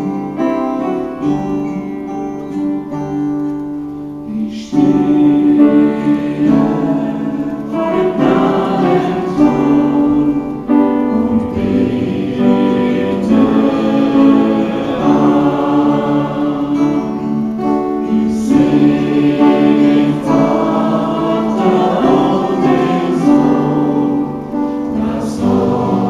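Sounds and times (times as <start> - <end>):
guitar: 0.0 - 26.0
keyboard: 0.0 - 26.0
group singing worship song: 4.2 - 26.0.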